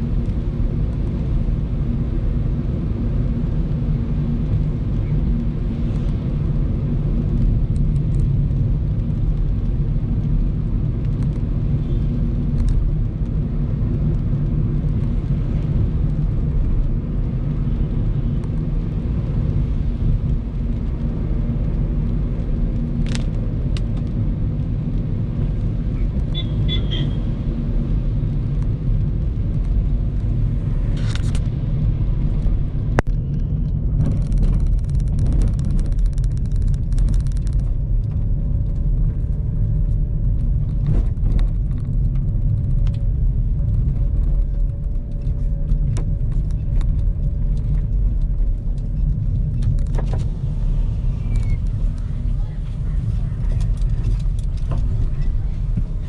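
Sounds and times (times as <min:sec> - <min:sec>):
car engine and tyres rumble: 0:00.0 - 0:56.0.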